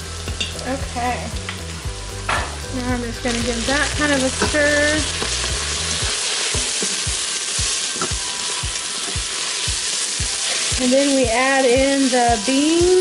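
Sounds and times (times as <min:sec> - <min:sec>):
vegetables sizzling: 0:00.0 - 0:13.0.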